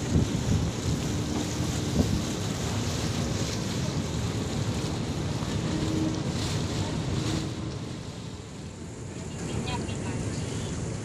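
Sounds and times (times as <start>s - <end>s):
ferry engine rumble: 0.0s - 11.0s
water washing against hull: 0.0s - 11.0s
wind on microphone: 0.0s - 11.0s.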